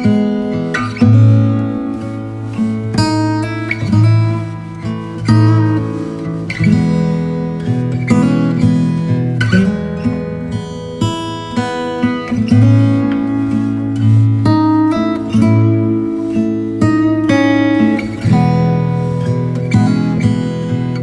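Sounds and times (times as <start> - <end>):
acoustic guitar plucked and strummed: 0.0 - 21.0.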